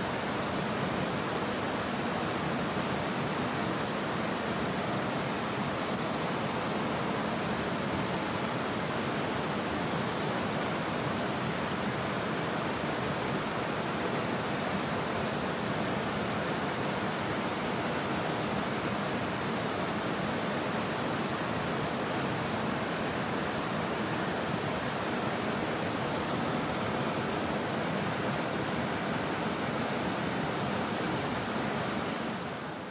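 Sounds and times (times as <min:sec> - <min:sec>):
river water rushing: 0:00.0 - 0:32.9.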